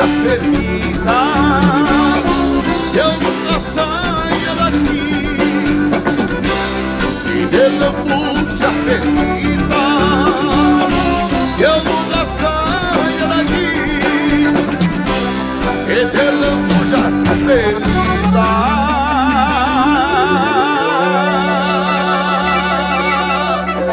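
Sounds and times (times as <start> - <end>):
accordion-led dance band: 0.0 - 23.9.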